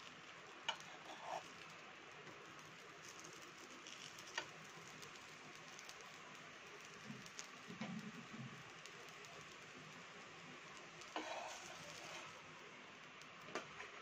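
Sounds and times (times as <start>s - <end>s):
dosa sizzling in oil: 0.0s - 14.0s.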